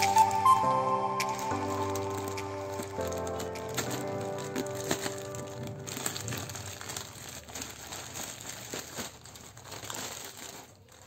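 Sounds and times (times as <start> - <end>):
plastic bag tearing: 0.0 - 11.0
plastic mailer bag crinkling: 0.0 - 11.0.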